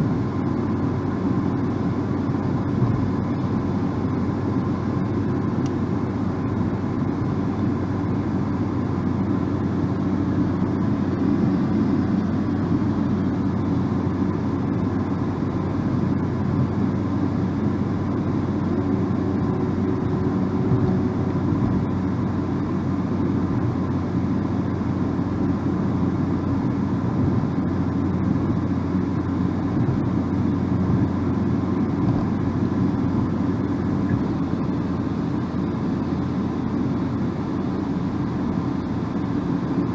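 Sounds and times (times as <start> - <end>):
car driving road rumble: 0.0 - 39.9.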